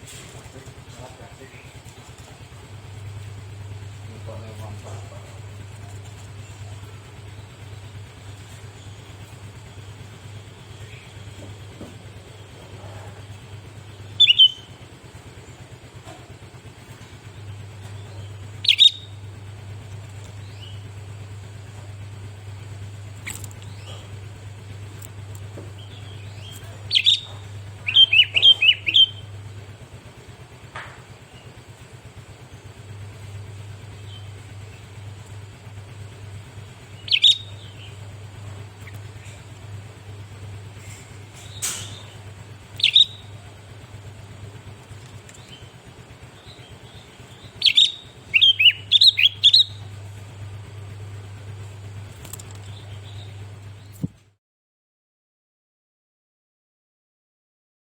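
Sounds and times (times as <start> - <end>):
low hum: 0.0 - 54.2
bird chirping: 0.1 - 54.1.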